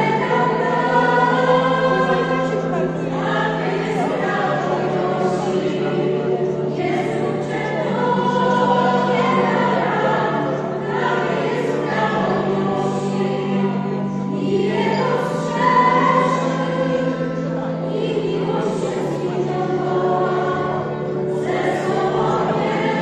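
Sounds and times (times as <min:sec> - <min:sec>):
mixed choir singing: 0:00.0 - 0:23.0.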